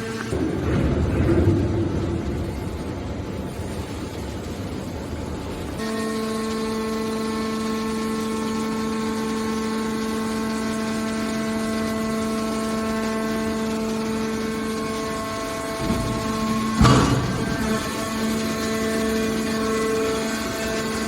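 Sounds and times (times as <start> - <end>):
hydraulic baler whining: 0.0 - 5.0, 5.6 - 21.0.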